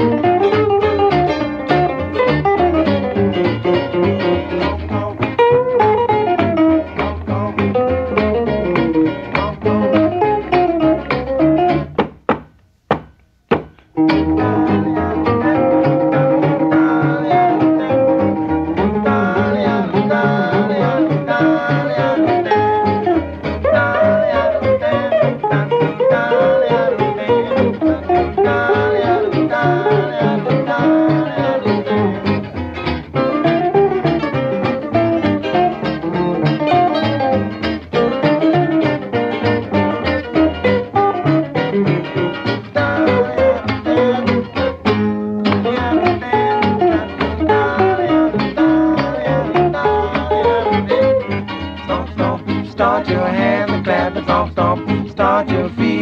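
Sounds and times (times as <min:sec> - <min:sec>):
plucked acoustic guitars: 0:00.0 - 0:56.0
string bass: 0:00.0 - 0:56.0.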